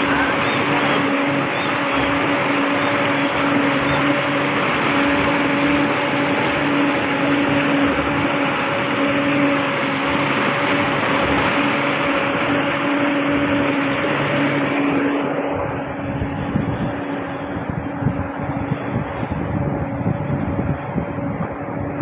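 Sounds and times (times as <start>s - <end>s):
outboard motor humming: 0.0s - 22.0s
rushing wake and spray: 0.0s - 22.0s.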